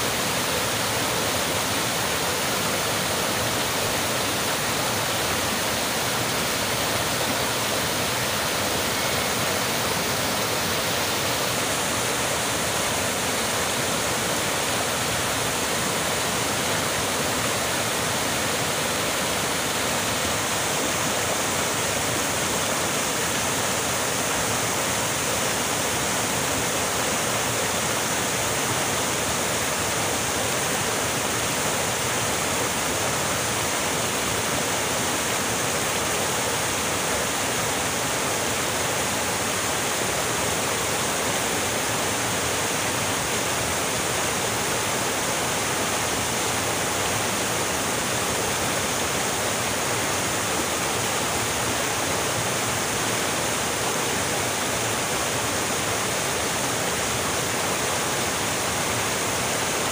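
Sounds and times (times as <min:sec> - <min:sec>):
stream rushing over boulders: 0:00.0 - 0:59.9.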